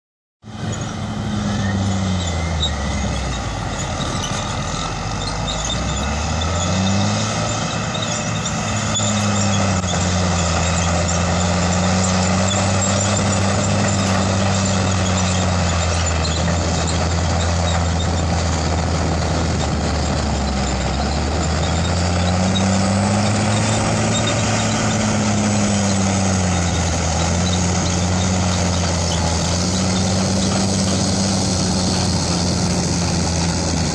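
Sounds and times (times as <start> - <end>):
heavy diesel tractor engine: 0.4 - 33.9.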